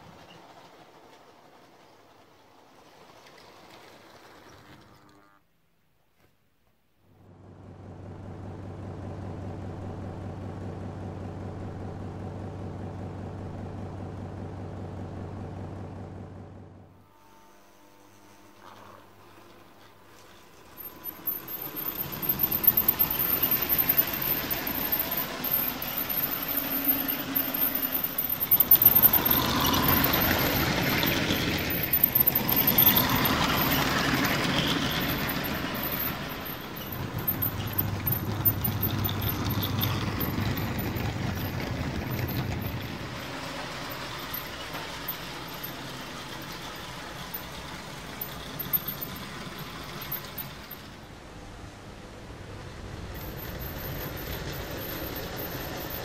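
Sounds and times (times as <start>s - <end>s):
model train running on track: 0.0s - 5.2s, 7.4s - 56.0s.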